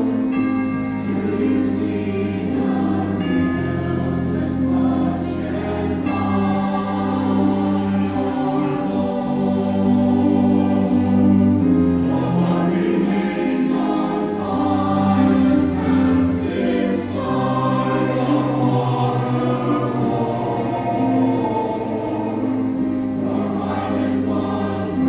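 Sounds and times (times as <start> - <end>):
church choir singing: 0.0 - 25.0
instrumental accompaniment: 0.0 - 25.0.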